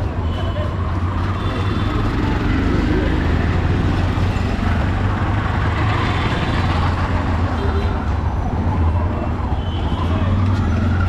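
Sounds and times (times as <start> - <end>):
road noise: 0.0 - 11.0
vehicle engines rumbling: 0.0 - 11.0.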